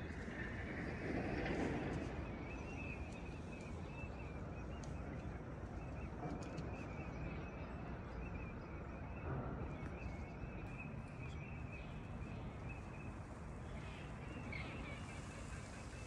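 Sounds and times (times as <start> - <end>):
wind rumble: 0.0 - 16.0
birds calling: 1.9 - 16.0.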